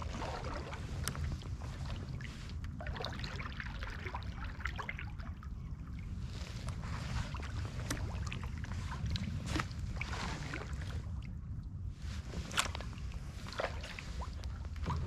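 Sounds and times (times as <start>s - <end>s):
paddle splashing water: 0.0s - 11.3s, 12.0s - 15.0s
low steady rumble: 0.0s - 15.0s.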